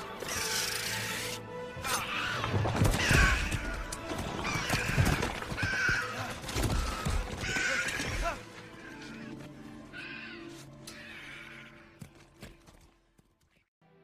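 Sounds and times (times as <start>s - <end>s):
orchestral film music: 0.0s - 13.1s.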